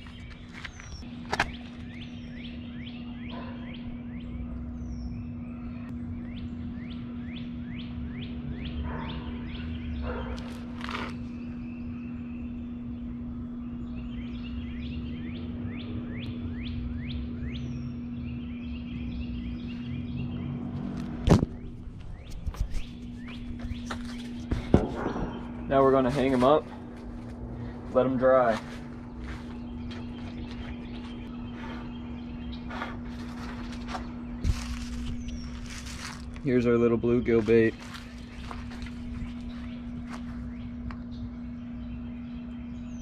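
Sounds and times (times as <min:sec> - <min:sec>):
bird singing down-slurred notes: 0:00.0 - 0:10.4, 0:11.2 - 0:27.0, 0:27.6 - 0:43.0
steady low hum: 0:00.0 - 0:43.0.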